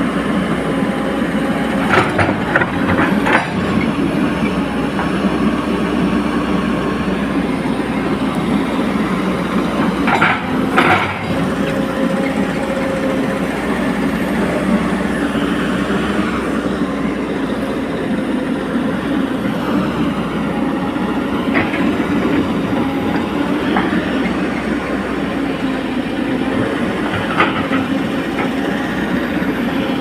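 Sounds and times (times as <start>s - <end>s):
excavator engine and hydraulics running: 0.0s - 30.0s.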